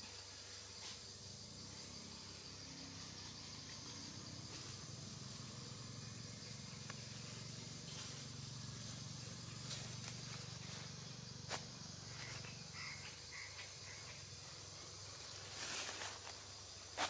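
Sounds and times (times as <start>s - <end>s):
high insect buzz: 0.0s - 17.0s.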